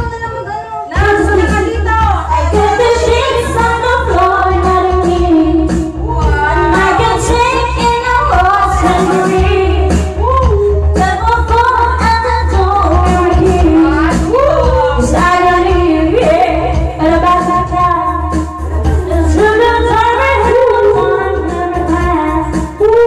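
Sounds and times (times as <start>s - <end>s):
recorded backing track: 0.0s - 23.0s
woman singing karaoke: 0.0s - 23.0s.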